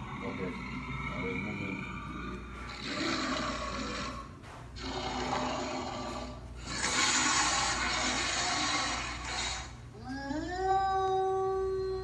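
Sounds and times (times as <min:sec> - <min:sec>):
wolf growling: 0:00.0 - 0:09.8.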